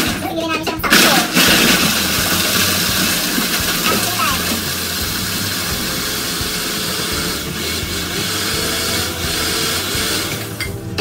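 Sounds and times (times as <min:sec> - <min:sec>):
electric blender running: 0:00.9 - 0:11.0.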